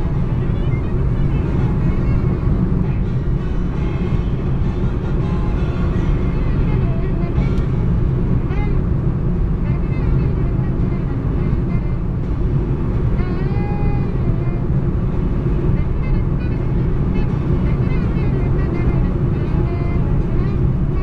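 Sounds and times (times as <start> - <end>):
car road and engine drone: 0.0 - 21.0
faint music: 0.0 - 21.0.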